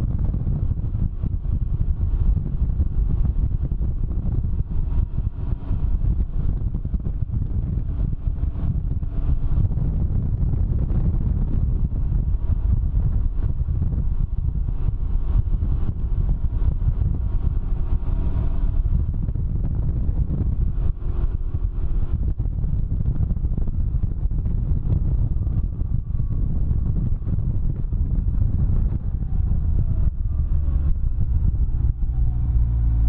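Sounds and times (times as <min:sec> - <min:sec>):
faint engine running: 0:00.0 - 0:33.0
wind buffeting microphone: 0:00.0 - 0:33.0.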